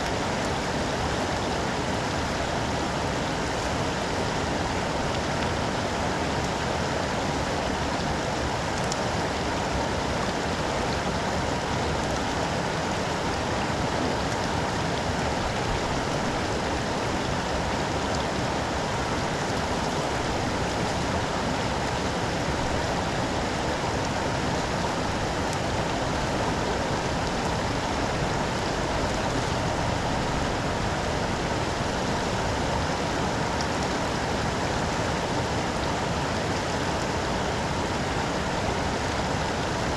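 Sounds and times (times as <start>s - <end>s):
storm water rushing: 0.0s - 39.9s.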